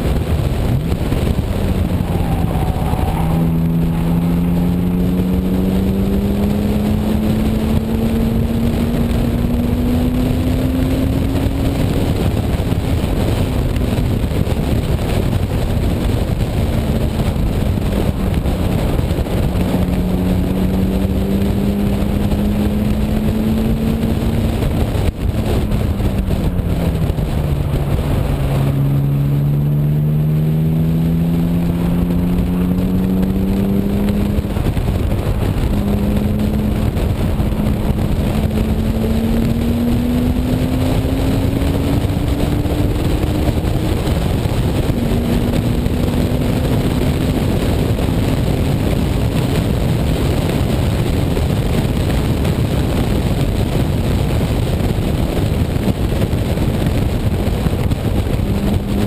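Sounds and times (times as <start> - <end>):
car engine revving: 0.0 - 59.0
wind rushing over microphone: 0.0 - 59.0.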